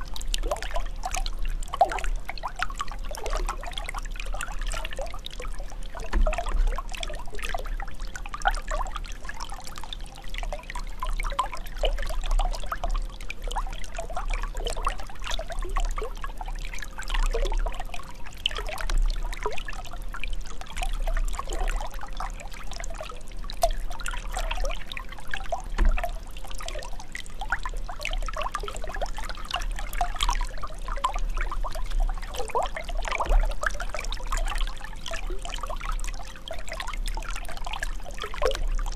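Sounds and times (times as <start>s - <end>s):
water trickling and gurgling: 0.0s - 38.9s.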